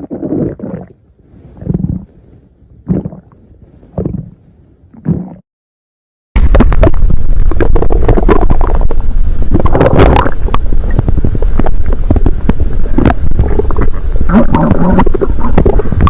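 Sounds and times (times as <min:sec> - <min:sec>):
stomach growling: 0:00.0 - 0:02.1, 0:02.8 - 0:05.4, 0:06.4 - 0:16.0.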